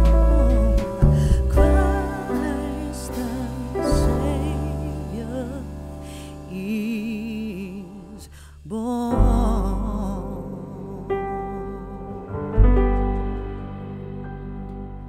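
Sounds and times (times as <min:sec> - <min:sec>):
low sustained bass: 0:00.0 - 0:15.0.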